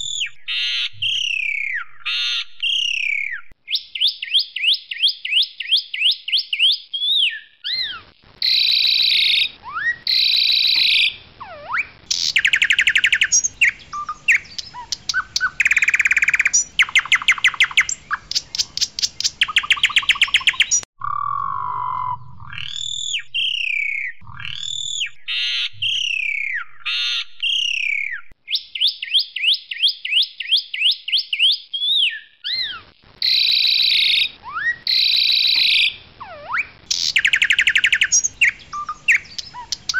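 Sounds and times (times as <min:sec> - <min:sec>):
starling singing: 0:06.0 - 0:29.5, 0:31.4 - 0:39.9.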